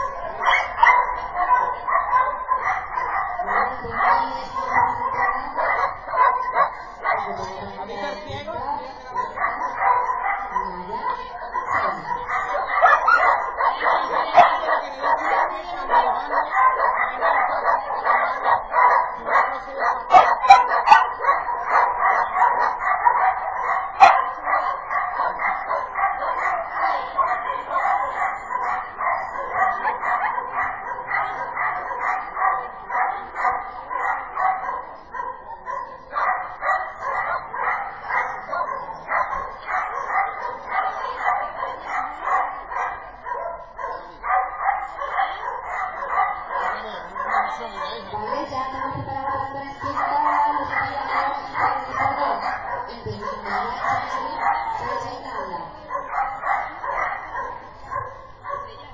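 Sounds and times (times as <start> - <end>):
dog barking rapidly: 0.0 - 8.4, 9.0 - 58.9.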